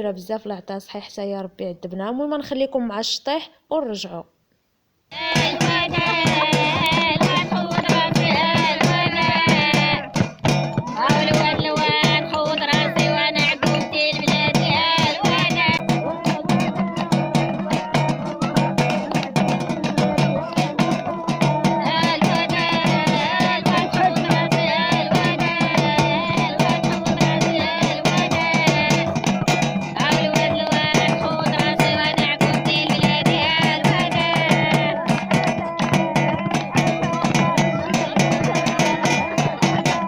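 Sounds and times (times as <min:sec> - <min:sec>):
dance music with fast beat: 0:05.2 - 0:40.0.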